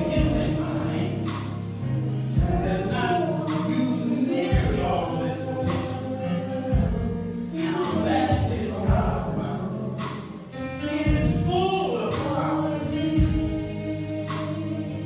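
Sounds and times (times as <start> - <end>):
band accompaniment: 0.0 - 15.0
gospel choir singing: 0.0 - 15.0.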